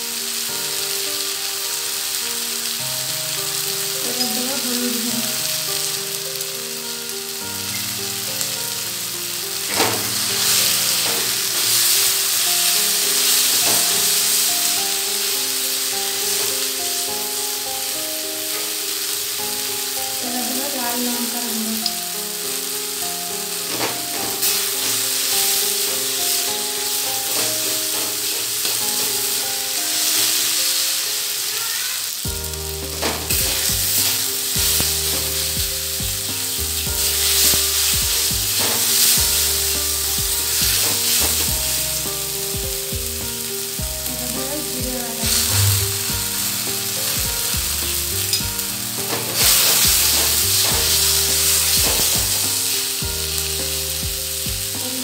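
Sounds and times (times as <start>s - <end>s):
onion and tomato sizzling in oil: 0.0s - 55.0s.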